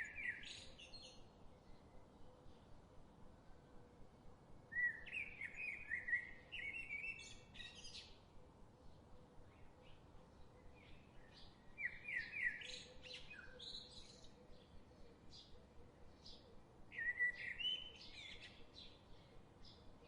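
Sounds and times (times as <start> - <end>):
small birds chirping and singing: 0.0 - 1.8, 4.8 - 8.2, 8.8 - 20.0.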